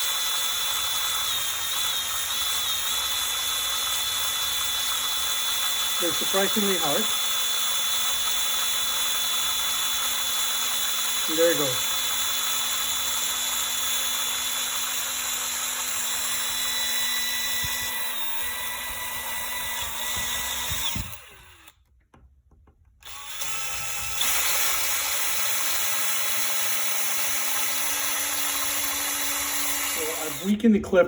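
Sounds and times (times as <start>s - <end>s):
small electric drill running: 0.0s - 21.8s, 23.0s - 30.6s.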